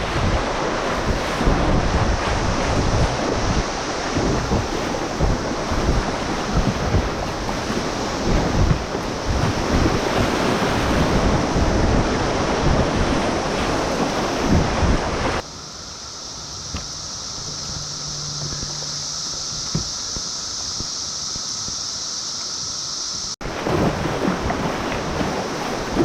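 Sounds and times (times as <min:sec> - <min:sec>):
wind buffeting microphone: 0:00.0 - 0:15.5, 0:16.6 - 0:21.8, 0:23.2 - 0:26.0
cicadas buzzing: 0:00.0 - 0:26.0
river water rushing: 0:00.0 - 0:26.0.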